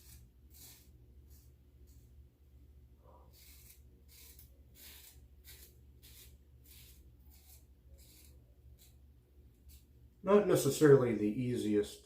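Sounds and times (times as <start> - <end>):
razor scraping stubble: 0.0 - 2.1, 3.0 - 10.7
low electrical hum: 0.0 - 12.0.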